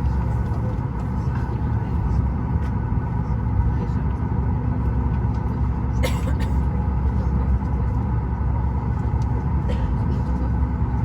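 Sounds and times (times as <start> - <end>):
airliner cabin rumble and hum: 0.0 - 11.0.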